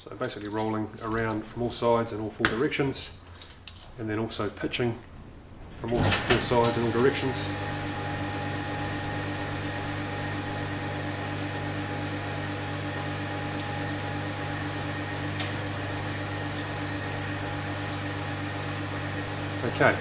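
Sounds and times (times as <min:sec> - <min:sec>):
steady machine hum: 0:03.0 - 0:20.0.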